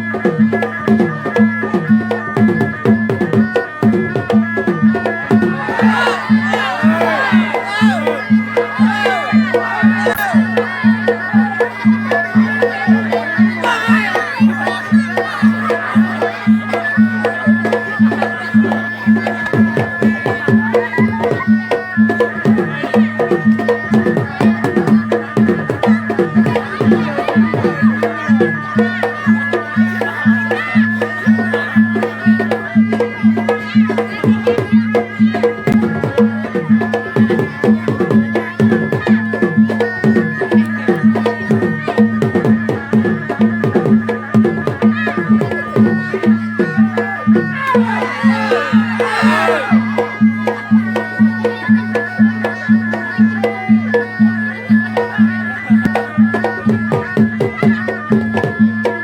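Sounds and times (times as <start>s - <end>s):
fast drumming: 0.2s - 51.5s.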